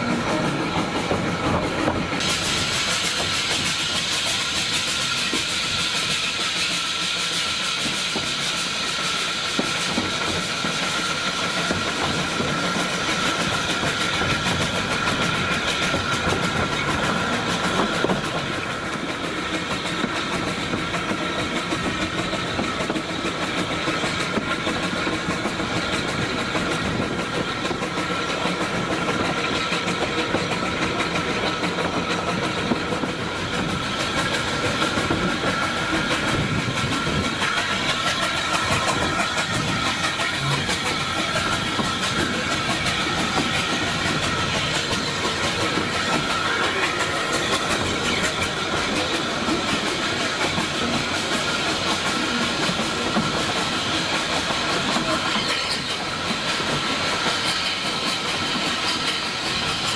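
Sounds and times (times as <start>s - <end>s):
train rumbling and rattling on rails: 0.0s - 59.9s.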